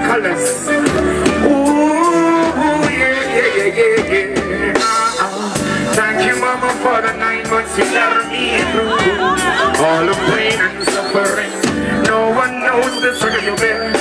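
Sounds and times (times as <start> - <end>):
man singing: 0.0 - 14.0
reggae band playing: 0.0 - 14.0.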